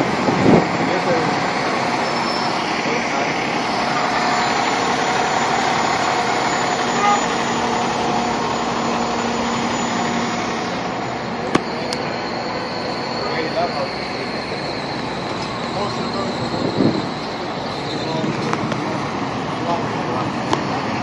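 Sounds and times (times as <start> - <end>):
city street noise: 0.0 - 21.0
diesel engine idling: 0.0 - 21.0.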